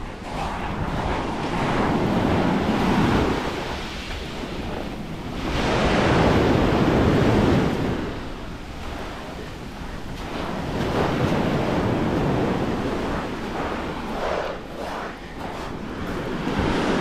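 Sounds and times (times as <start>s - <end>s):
waves washing onto shore: 0.0s - 17.0s
wind buffeting microphone: 0.0s - 17.0s.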